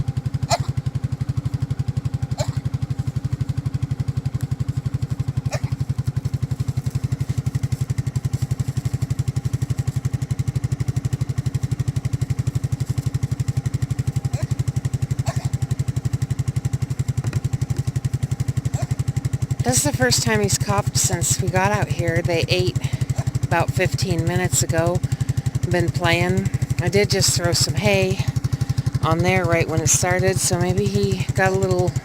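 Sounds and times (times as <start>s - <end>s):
atv engine puttering: 0.0s - 32.0s.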